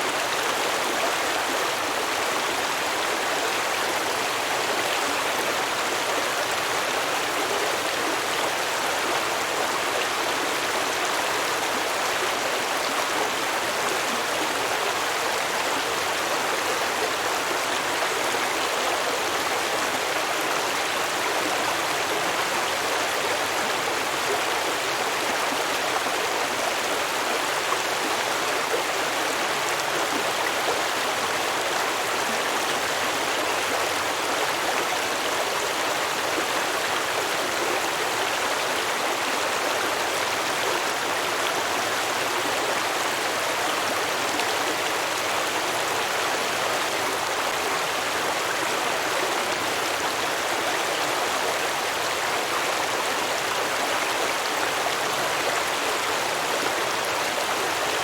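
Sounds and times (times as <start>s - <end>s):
stream water babbling over rocks: 0.0s - 58.0s.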